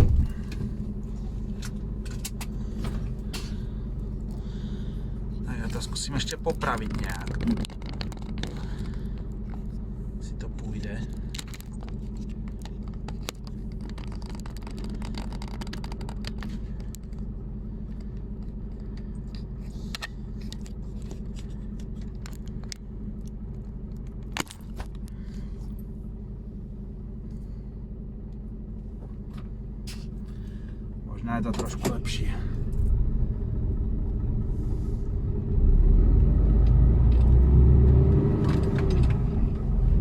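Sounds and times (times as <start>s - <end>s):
truck diesel engine running: 0.0s - 40.0s.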